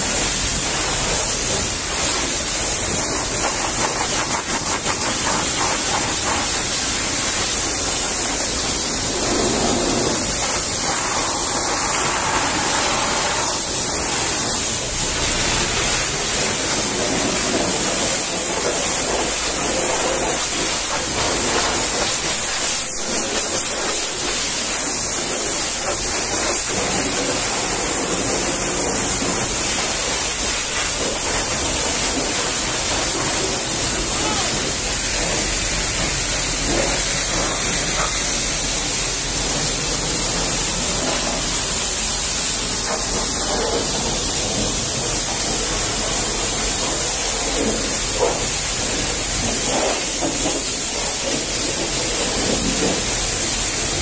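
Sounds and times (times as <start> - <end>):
pressure washer spray hissing: 0.0 - 54.0.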